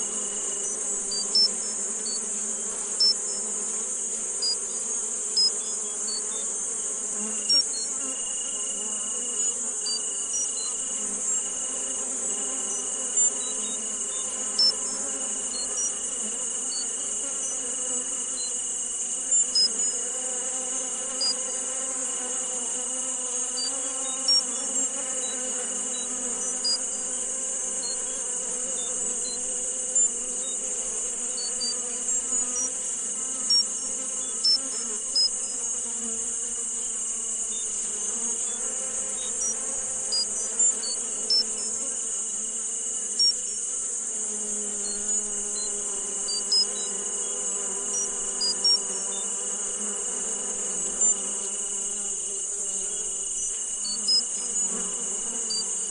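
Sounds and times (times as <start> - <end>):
insect-like buzz: 0.0 - 55.9.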